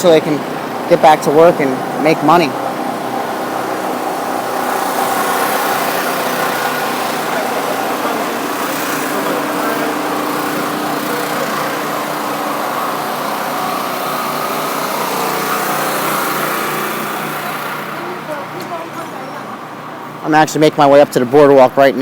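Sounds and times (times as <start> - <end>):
generators running: 0.0 - 22.0.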